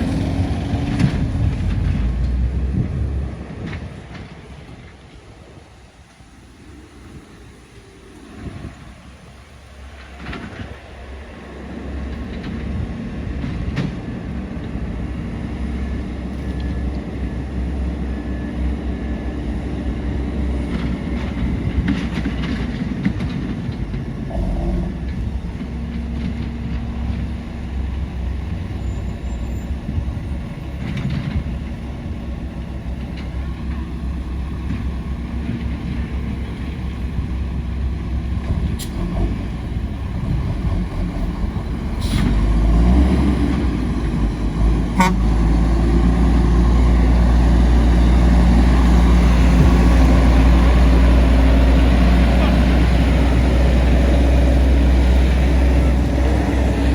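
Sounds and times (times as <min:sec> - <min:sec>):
heavy trucks rumbling: 0:00.0 - 0:56.9.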